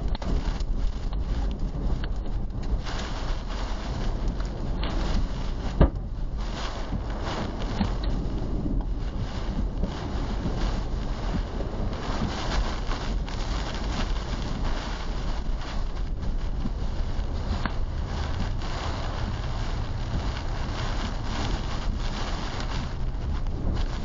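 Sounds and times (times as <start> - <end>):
rain battering a vehicle: 0.0 - 24.0
wind buffeting microphone: 0.0 - 24.0.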